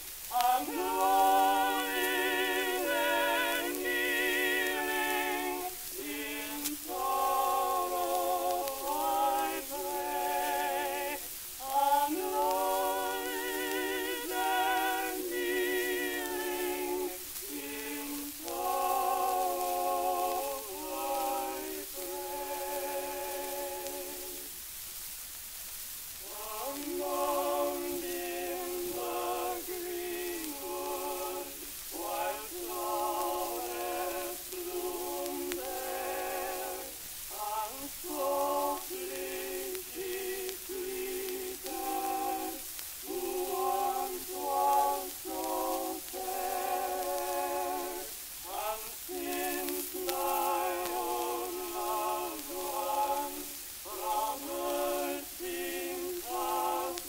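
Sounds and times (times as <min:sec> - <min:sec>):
record surface hiss: 0:00.0 - 0:57.0
male vocal quartet singing: 0:00.2 - 0:24.6, 0:26.2 - 0:57.0.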